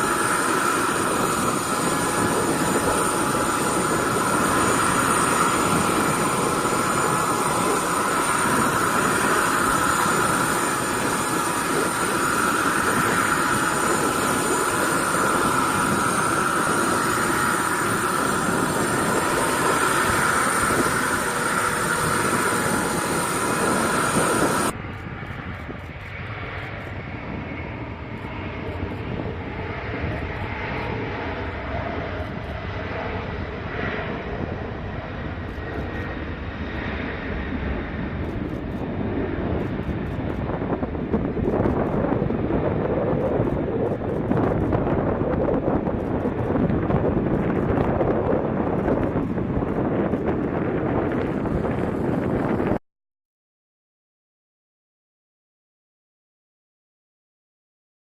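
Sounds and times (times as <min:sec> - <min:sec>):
dull engine sound: 0:00.0 - 0:52.8
jet engines roaring with whine: 0:00.0 - 0:52.8.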